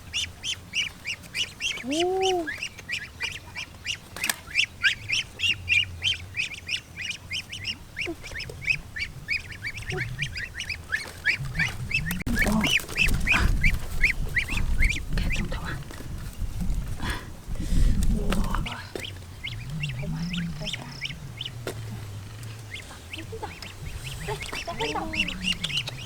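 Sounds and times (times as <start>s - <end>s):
ducks calling: 0.0s - 26.0s.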